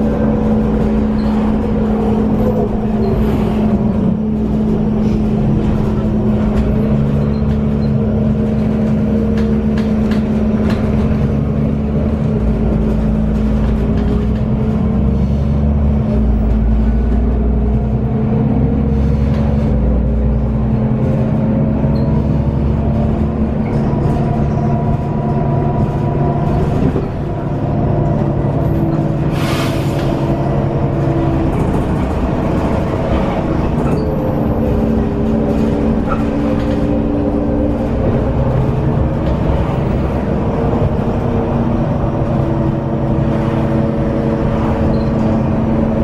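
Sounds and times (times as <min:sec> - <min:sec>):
bus diesel engine pulling: 0:00.0 - 0:46.0.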